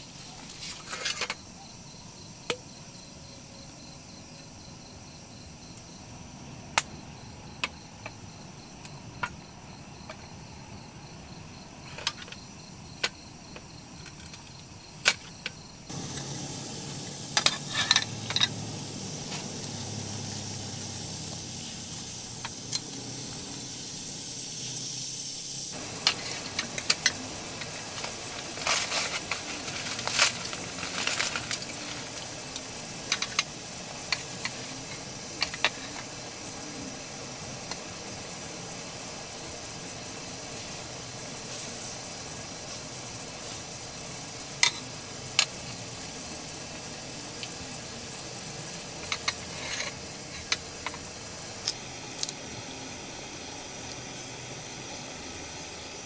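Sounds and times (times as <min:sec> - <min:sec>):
crickets trilling: 0:00.0 - 0:56.0
steady outdoor hiss: 0:00.0 - 0:56.0.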